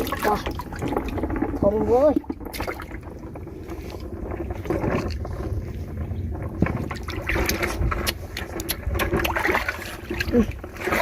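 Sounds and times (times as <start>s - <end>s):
steady low rumble: 0.0s - 11.0s
water sloshing and splashing: 0.0s - 11.0s.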